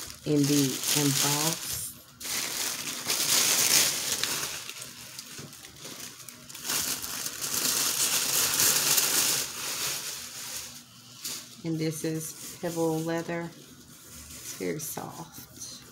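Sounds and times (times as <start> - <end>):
plastic and tissue paper crinkling: 0.0 - 15.9.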